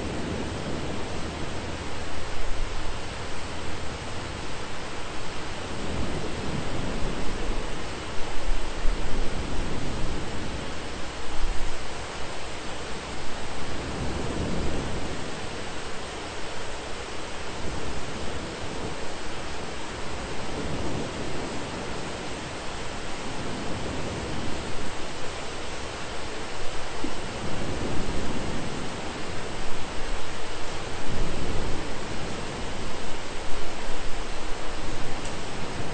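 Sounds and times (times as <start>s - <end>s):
thunder rumbling: 0.0s - 11.8s, 12.8s - 35.9s
dense rain hiss: 0.0s - 35.9s.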